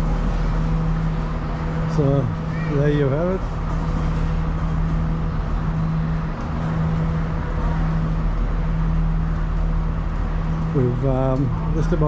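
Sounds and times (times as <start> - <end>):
busy platform noise: 0.0 - 12.0
train diesel engine idling: 0.0 - 12.0.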